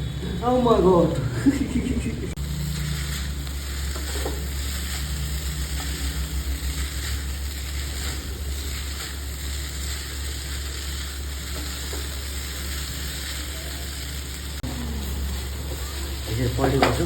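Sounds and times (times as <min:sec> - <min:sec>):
noodles sizzling in a pan: 0:02.4 - 0:17.0.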